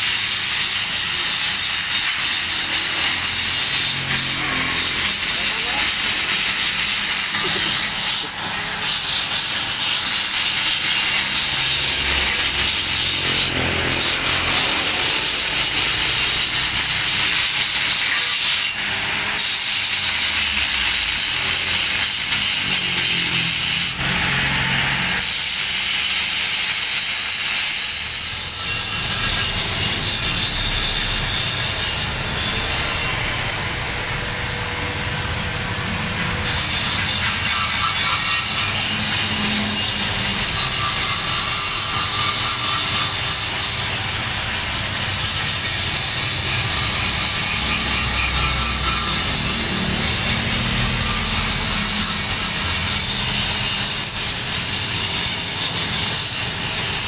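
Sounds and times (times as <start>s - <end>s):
machine motor rubbing: 0.0s - 19.3s, 20.1s - 54.6s.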